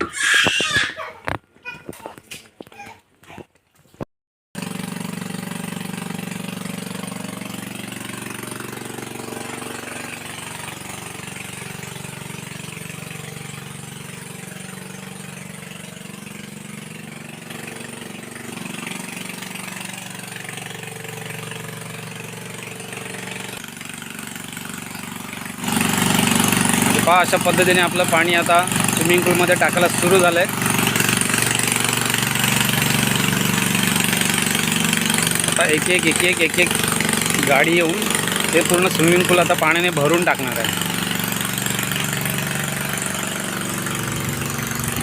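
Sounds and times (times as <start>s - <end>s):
truck engine running pump: 4.6s - 45.0s.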